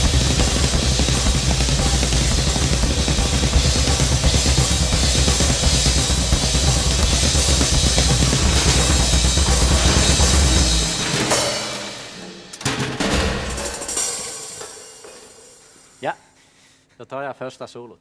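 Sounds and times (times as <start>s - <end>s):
fast dense drumming: 0.0s - 14.8s.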